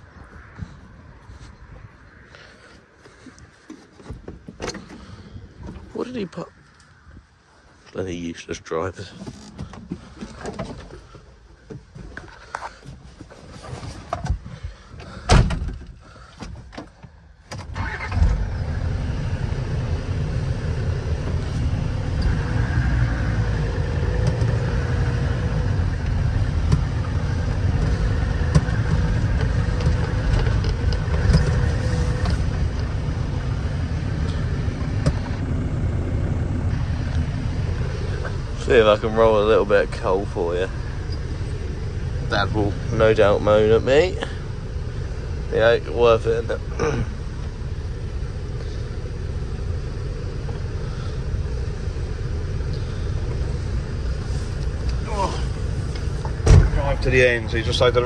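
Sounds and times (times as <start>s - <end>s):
vehicle engine starting and rumbling: 0.0s - 58.0s.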